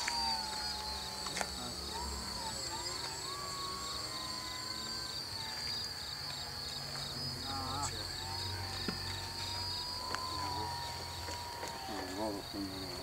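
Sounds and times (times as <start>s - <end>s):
crickets trilling: 0.0s - 13.0s
model airplane motor whine: 0.0s - 13.0s.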